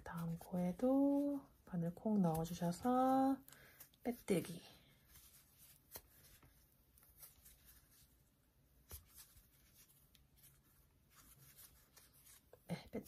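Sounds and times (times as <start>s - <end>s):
crochet hook rustling yarn: 0.0s - 13.0s.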